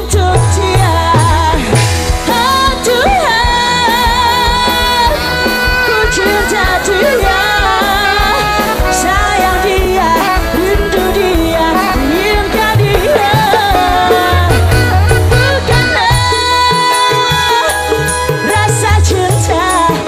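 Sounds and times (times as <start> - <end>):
live rock band music: 0.0 - 20.0.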